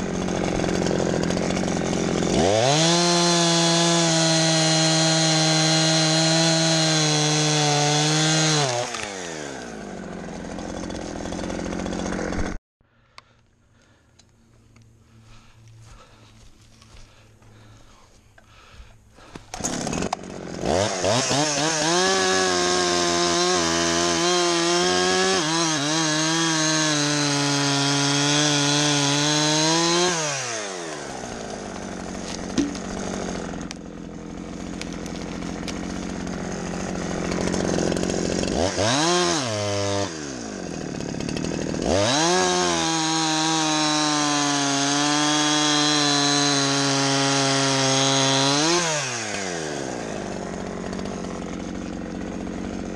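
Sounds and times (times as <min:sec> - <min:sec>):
chainsaw cutting wood: 0:00.0 - 0:12.6, 0:13.2 - 0:52.9.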